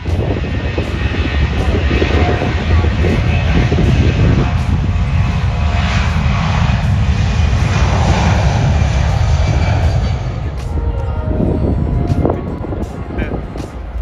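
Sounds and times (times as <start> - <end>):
jet aircraft takeoff roar: 0.0 - 14.0.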